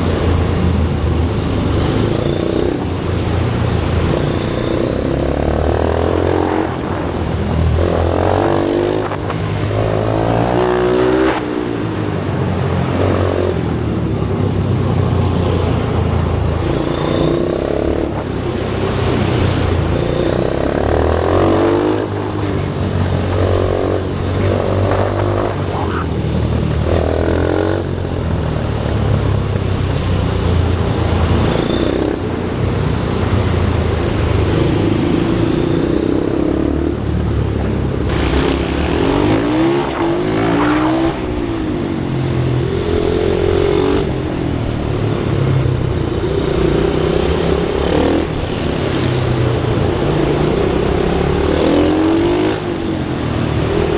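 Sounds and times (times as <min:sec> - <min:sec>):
small motorcycle engines revving: 0:00.0 - 0:53.9.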